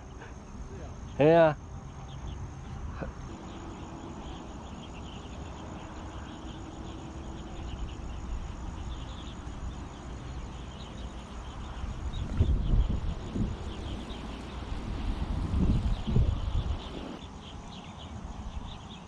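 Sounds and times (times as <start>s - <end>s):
insects chirping: 0.0s - 19.0s
wind rumble on microphone: 2.3s - 19.0s.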